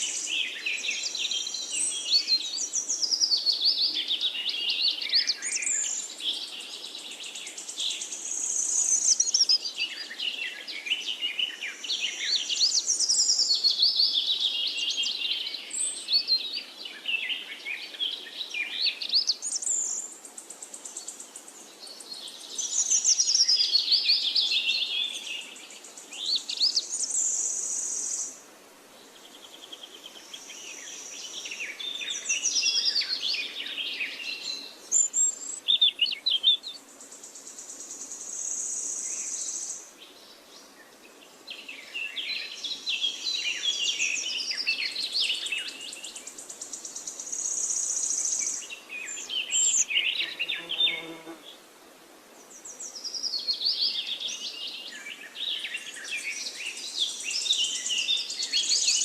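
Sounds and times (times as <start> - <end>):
songbirds singing trills: 0.0 - 28.4, 29.0 - 51.6, 52.4 - 59.0.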